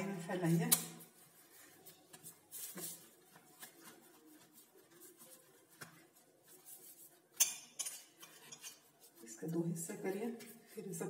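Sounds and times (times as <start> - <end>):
hands rubbing dough: 0.0 - 11.0.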